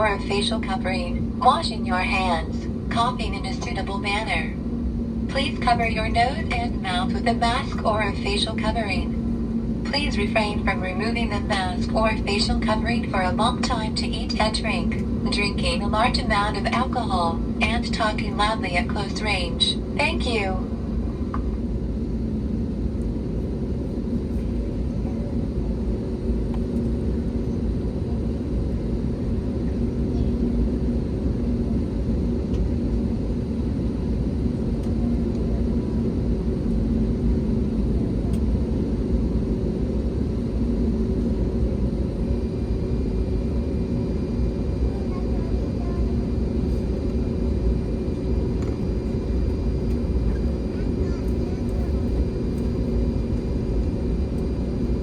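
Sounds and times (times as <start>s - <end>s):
aircraft cabin rumble: 0.0s - 55.0s.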